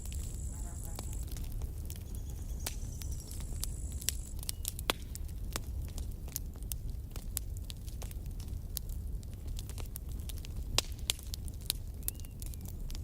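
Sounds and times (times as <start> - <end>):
campfire crackling and popping: 0.0 - 13.0
low rumble of fire: 0.0 - 13.0.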